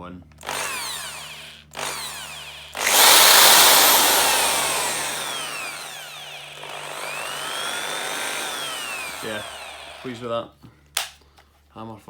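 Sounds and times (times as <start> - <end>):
hammer drill motor whining: 0.4 - 10.3.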